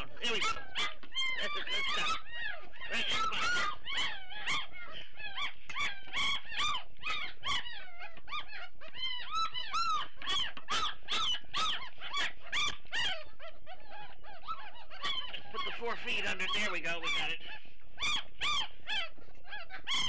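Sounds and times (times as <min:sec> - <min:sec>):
puppies whining and squealing: 0:00.0 - 0:20.0.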